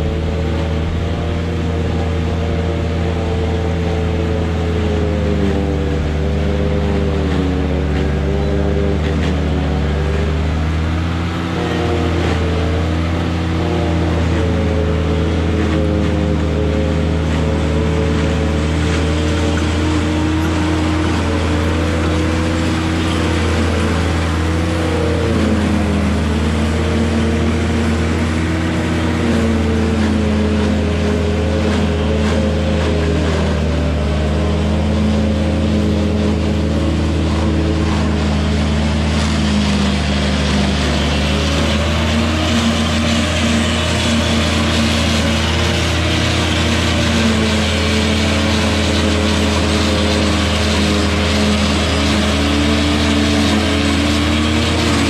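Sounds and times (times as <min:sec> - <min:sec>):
rough churning noise: 0:00.0 - 0:55.0
silage processor engine drone: 0:00.0 - 0:55.0.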